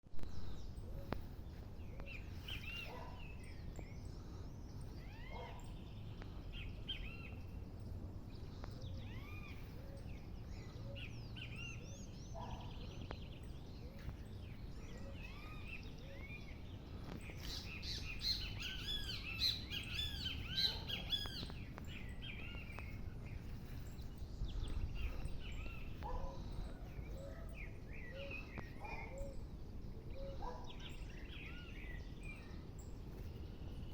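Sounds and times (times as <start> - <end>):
birds chirping: 0.2 - 33.9.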